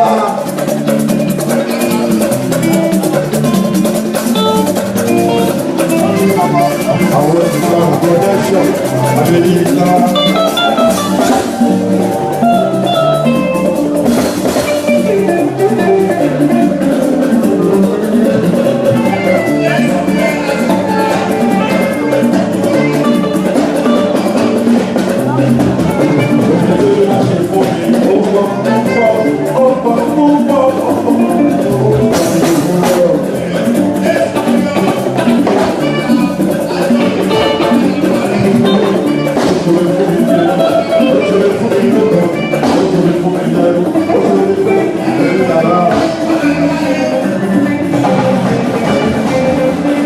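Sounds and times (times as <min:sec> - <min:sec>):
band playing lively melody: 0:00.0 - 0:50.0.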